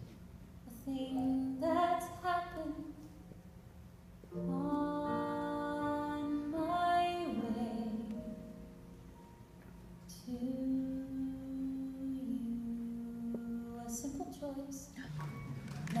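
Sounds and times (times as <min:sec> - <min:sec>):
piano chords: 0:01.0 - 0:14.2.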